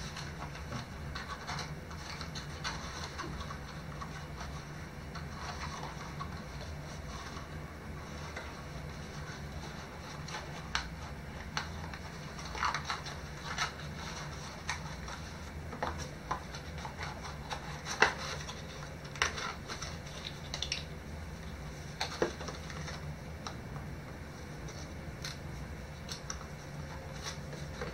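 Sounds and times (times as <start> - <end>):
cardboard and plastic rustling: 0.0 - 23.6, 24.2 - 27.9
steady low hum: 0.0 - 27.9.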